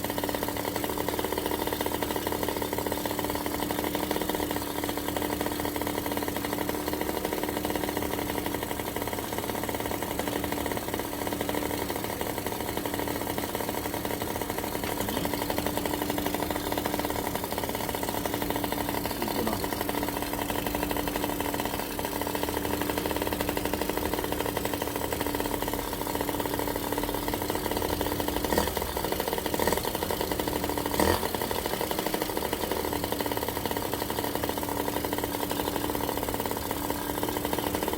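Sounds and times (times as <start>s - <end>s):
scooter engine idling: 0.0s - 37.9s.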